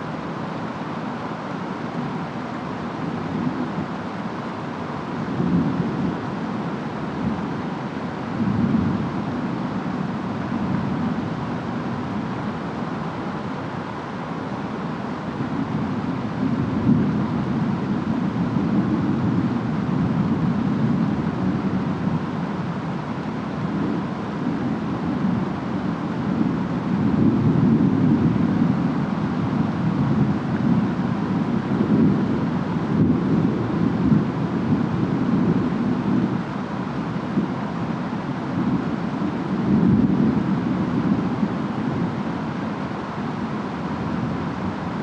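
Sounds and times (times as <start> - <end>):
rain and wind hiss: 0.0 - 45.0.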